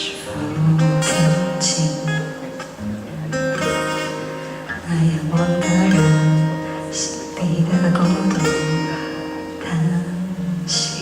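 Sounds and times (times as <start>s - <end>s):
acoustic guitar strumming: 0.0s - 11.0s
pop song on guitar: 0.0s - 11.0s.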